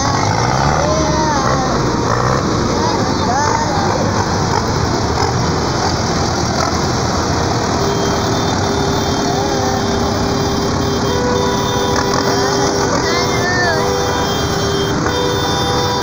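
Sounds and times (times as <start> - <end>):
tractor diesel engines running: 0.0 - 16.0.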